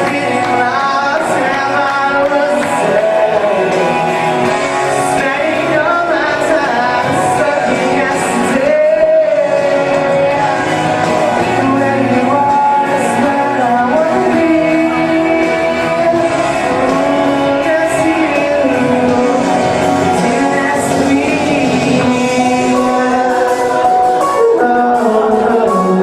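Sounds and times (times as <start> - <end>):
instrumental backing: 0.0 - 26.0
man singing live: 0.0 - 26.0.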